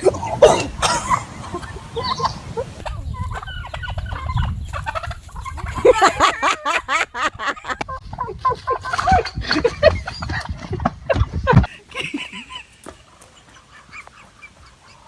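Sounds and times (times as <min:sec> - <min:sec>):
turkey calling: 0:00.0 - 0:10.9, 0:11.6 - 0:15.0
turkey gobbling: 0:00.0 - 0:15.0.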